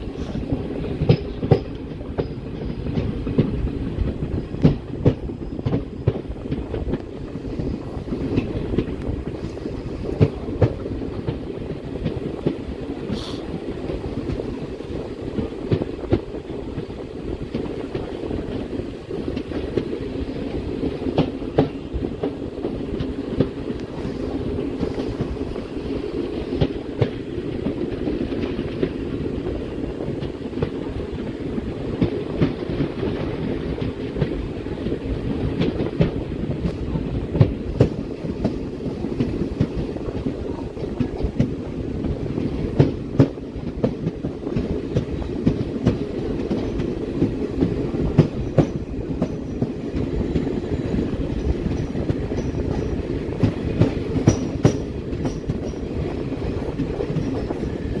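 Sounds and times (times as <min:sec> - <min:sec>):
train wheels rumbling on rails: 0:00.0 - 0:58.0
wheels clicking on rail joints: 0:00.0 - 0:58.0.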